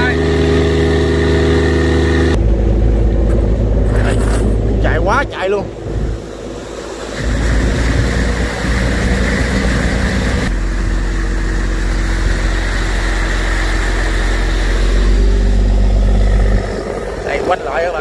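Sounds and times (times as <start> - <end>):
boat diesel engine drone: 0.0 - 18.0.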